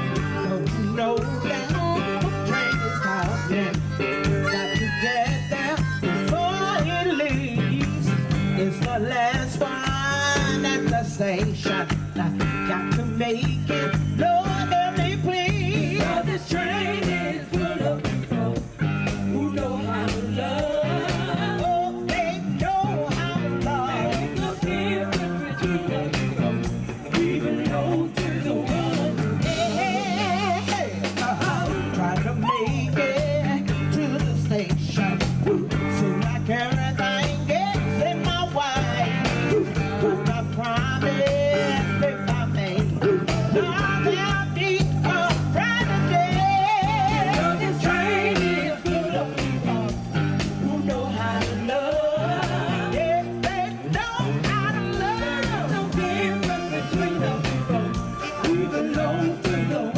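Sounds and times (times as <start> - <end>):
harmonica: 0.0 - 8.5, 11.8 - 33.6, 37.0 - 59.9
bass line: 0.0 - 59.9
drum beat: 0.0 - 59.9
women singing: 0.0 - 59.9.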